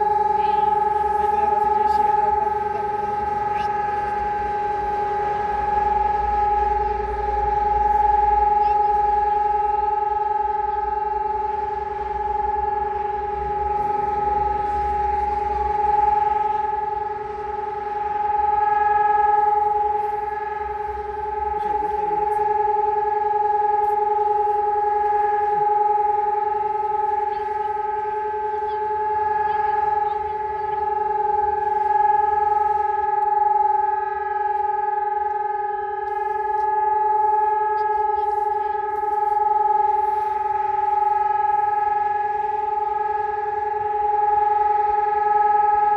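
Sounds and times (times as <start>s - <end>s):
sirens steady tone: 0.0s - 45.9s.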